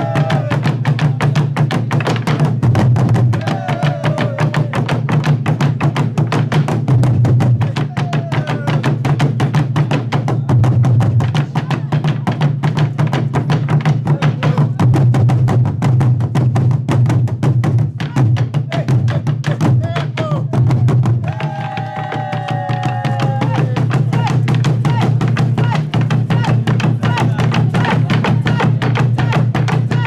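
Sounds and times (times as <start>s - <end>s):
drums beating fast: 0.0s - 30.0s.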